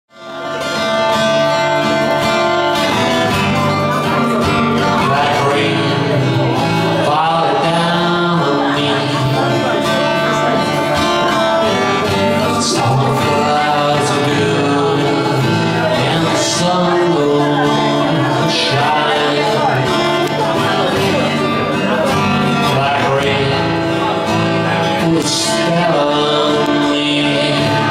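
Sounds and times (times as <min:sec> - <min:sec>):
acoustic guitar chords: 0:00.1 - 0:27.9.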